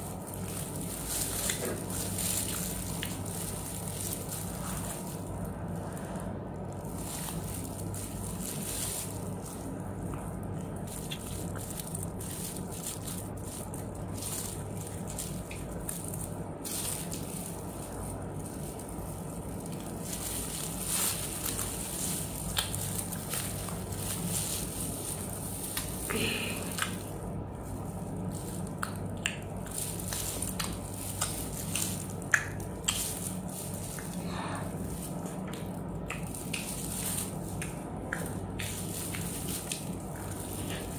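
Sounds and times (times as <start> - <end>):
plastic gloves crinkling: 0.0 - 40.9
steady low hum: 0.0 - 40.9.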